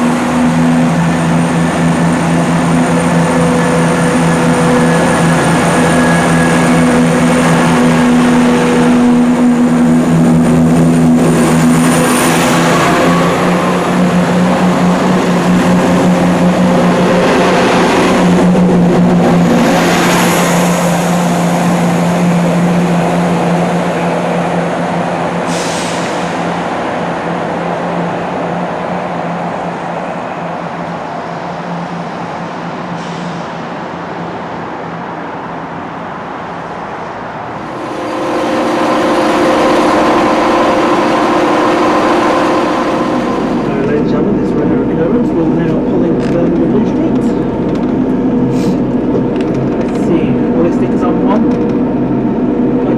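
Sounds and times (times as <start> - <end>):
train engine hum: 0.0 - 52.9.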